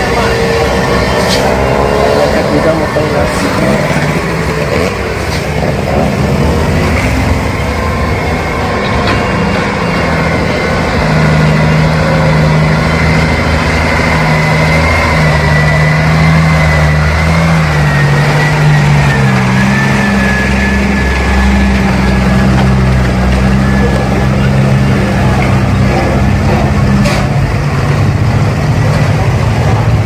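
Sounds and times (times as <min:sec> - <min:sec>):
heavy truck engine running: 0:00.0 - 0:30.0.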